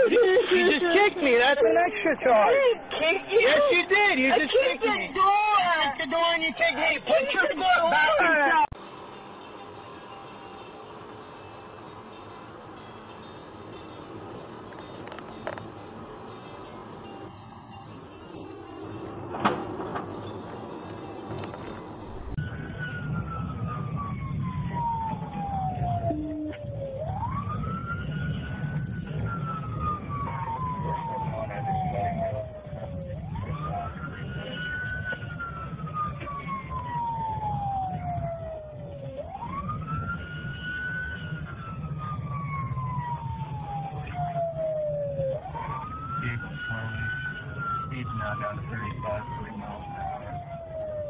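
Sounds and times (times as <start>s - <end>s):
police siren wailing: 0.0s - 8.8s, 14.8s - 51.0s
engine and road rumble: 0.0s - 51.0s.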